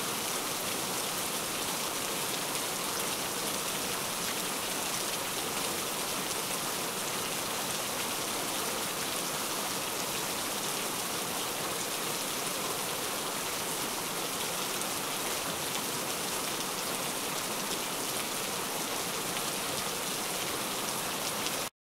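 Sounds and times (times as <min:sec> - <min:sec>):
heavy rain falling: 0:00.0 - 0:21.7.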